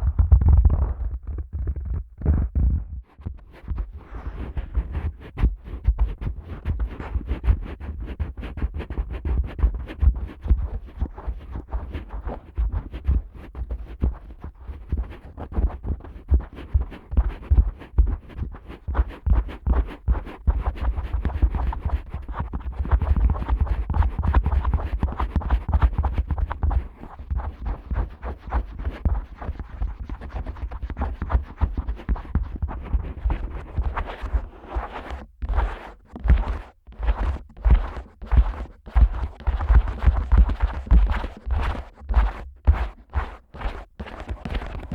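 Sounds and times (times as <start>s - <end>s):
fingertips scratching microphone: 0.0s - 44.9s.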